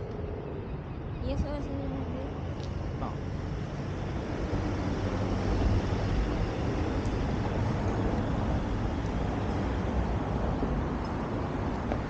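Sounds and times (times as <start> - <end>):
road traffic: 0.0 - 12.0
wind rumbling on microphone: 0.0 - 12.0.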